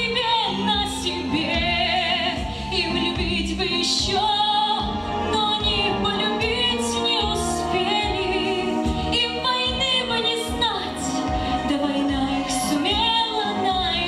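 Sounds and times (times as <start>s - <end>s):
musical accompaniment: 0.0s - 14.0s.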